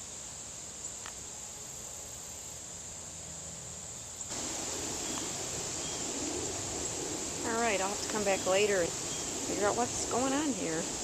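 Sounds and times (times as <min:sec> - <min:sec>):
background hiss: 0:00.0 - 0:11.0
insects chorus: 0:00.0 - 0:11.0.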